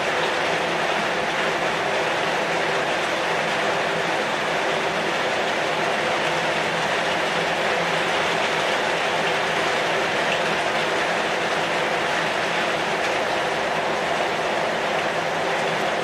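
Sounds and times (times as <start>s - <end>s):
heavy rain on a metal roof: 0.0s - 16.0s.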